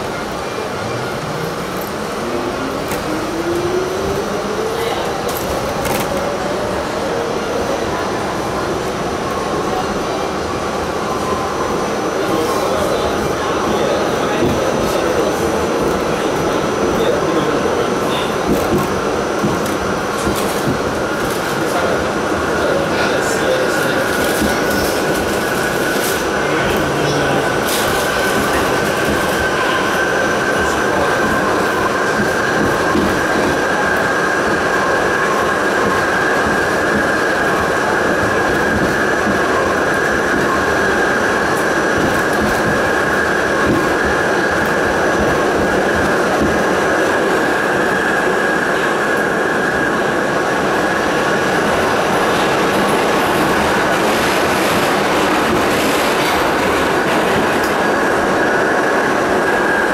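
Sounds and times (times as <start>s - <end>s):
subway wheels rumbling on rail: 0.0s - 59.9s.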